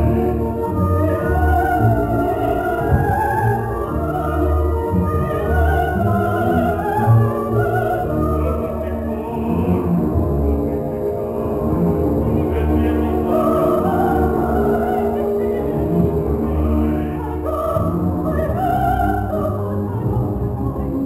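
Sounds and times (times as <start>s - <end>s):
operatic voice singing: 0.0s - 21.0s.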